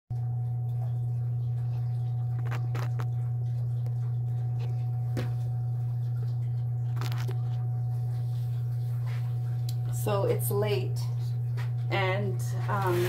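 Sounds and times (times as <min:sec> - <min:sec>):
loud low hum: 0:00.2 - 0:13.0.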